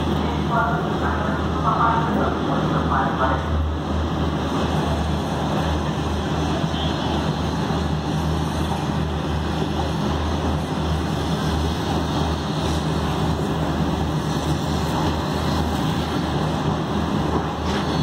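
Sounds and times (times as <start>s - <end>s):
train coach rumbling: 0.0s - 18.0s.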